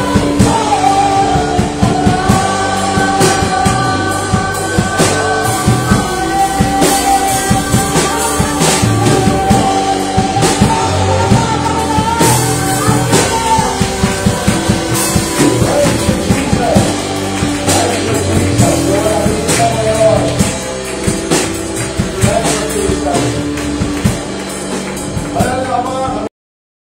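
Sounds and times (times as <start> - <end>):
man singing into a microphone: 0.0 - 20.7, 22.0 - 23.6, 25.3 - 26.3
live rock band playing: 0.0 - 26.3.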